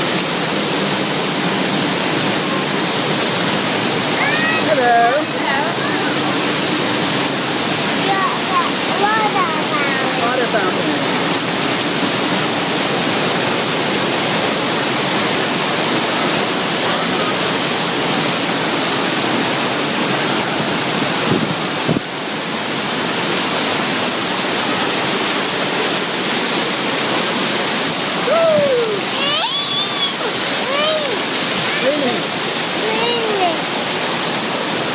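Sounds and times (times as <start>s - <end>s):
fountain water splashing: 0.0s - 34.9s.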